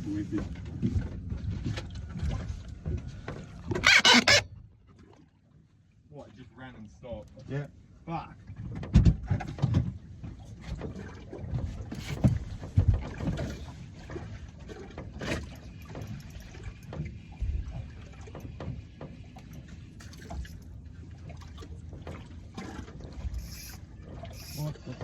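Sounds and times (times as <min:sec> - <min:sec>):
water lapping against boat hull: 0:00.0 - 0:25.0.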